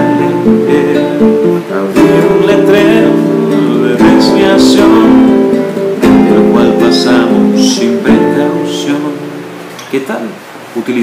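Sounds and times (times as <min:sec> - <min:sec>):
classical guitar strumming chords: 0:00.0 - 0:10.4.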